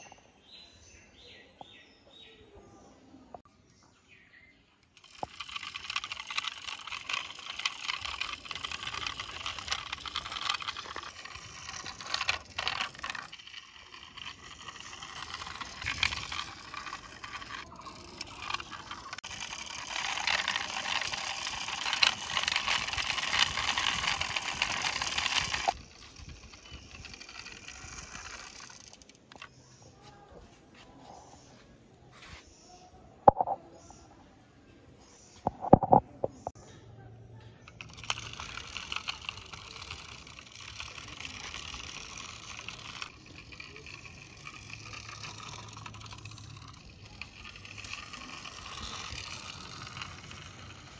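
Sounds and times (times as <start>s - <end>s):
toy truck wheels rattling on stone: 4.6s - 31.5s, 32.7s - 34.0s, 35.4s - 50.9s.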